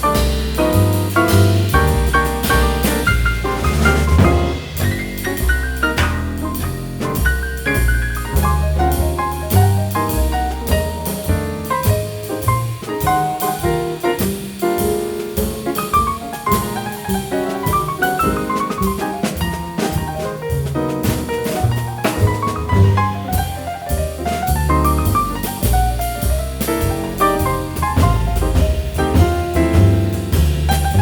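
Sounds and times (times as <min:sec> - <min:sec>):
jazz music: 0:00.0 - 0:31.0.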